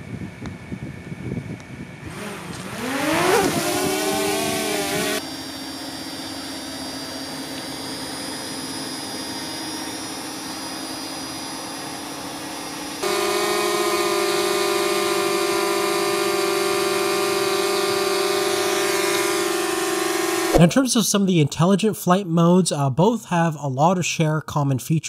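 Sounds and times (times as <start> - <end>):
drone propeller hum: 0.0 - 20.8
high-pitched drone propeller whine: 0.0 - 21.3.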